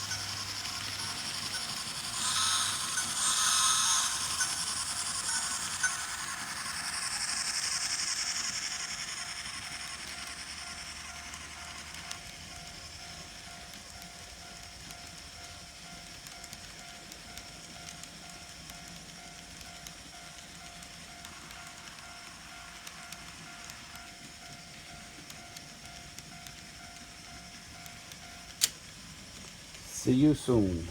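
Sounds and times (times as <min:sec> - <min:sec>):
wheels clicking on rail: 0:00.0 - 0:30.8
model train motor whir: 0:00.0 - 0:30.9.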